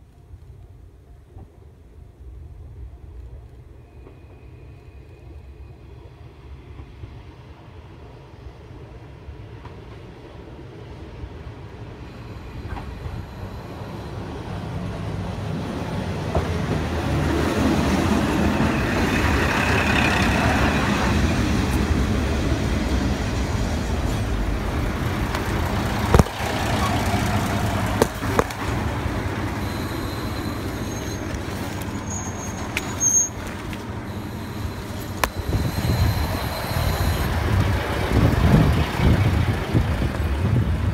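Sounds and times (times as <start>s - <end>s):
diesel train rumbling: 0.0s - 40.9s.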